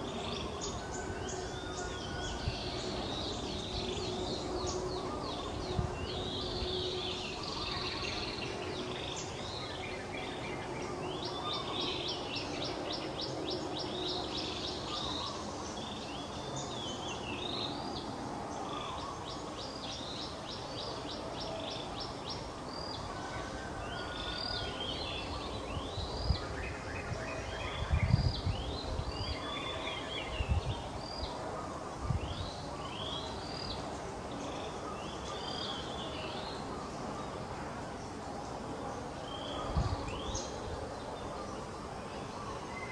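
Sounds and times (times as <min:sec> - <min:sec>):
birds chirping and trilling: 0:00.0 - 0:42.9
outdoor background hum: 0:00.0 - 0:42.9.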